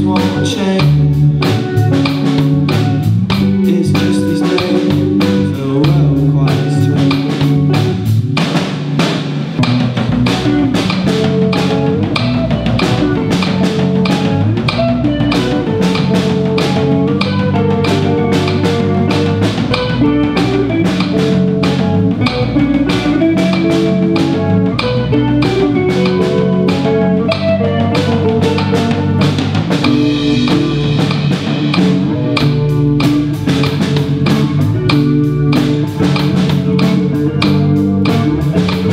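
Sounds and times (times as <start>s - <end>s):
bass guitar: 0.0s - 38.9s
drum kit beat: 0.0s - 38.9s
electric guitars: 0.0s - 38.9s.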